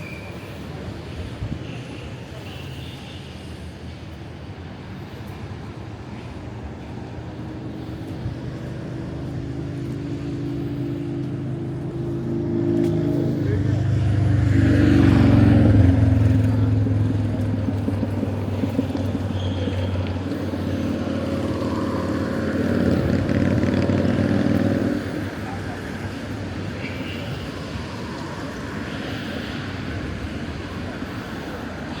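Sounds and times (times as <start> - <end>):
background traffic: 0.0 - 32.0
vehicle engine humming: 5.7 - 32.0.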